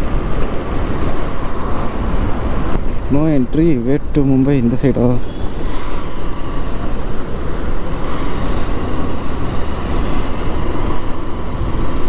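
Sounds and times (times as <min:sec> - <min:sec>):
motorcycle road noise: 0:00.0 - 0:12.0
wind rush: 0:00.0 - 0:12.0.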